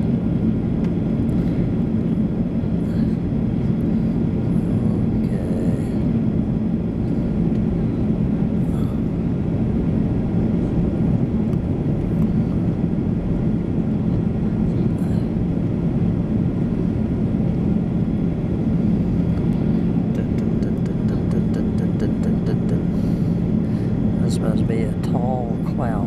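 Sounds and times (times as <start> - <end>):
constant low hum: 0.0 - 26.0
jet engines droning: 0.0 - 26.0.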